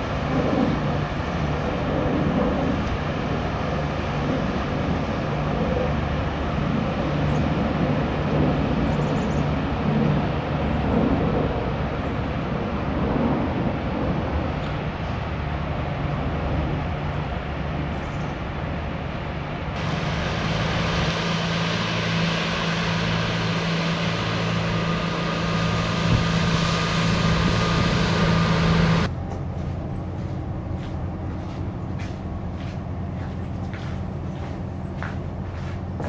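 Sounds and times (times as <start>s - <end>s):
propeller wash: 0.0s - 29.1s
boat diesel engine drone: 0.0s - 36.0s
low engine rumble: 0.0s - 36.0s.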